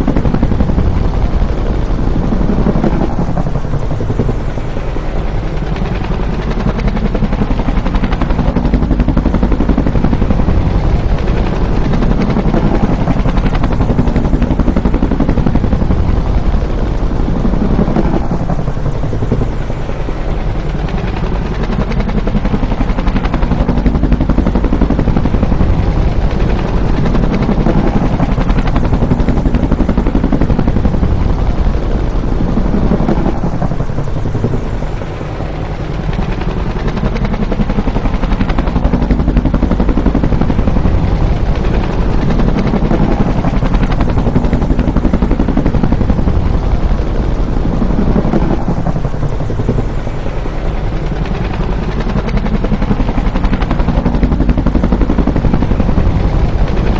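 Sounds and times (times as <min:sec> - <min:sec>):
helicopter flying by: 0:00.0 - 0:56.9.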